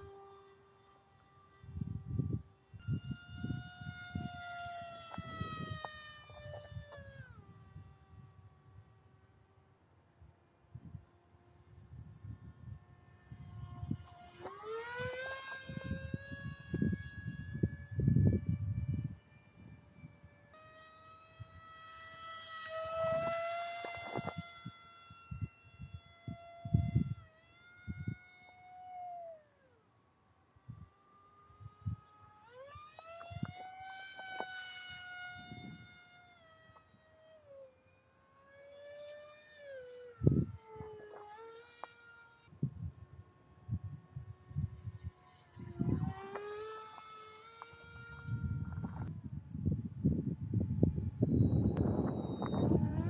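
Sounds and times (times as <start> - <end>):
electric motor and propeller whining: 0.0 - 53.0.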